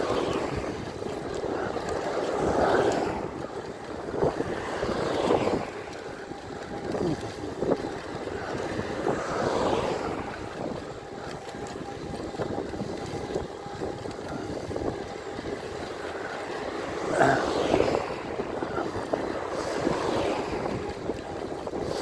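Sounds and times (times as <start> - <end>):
tyre and road noise: 0.0 - 22.0
wind buffeting microphone: 0.0 - 22.0.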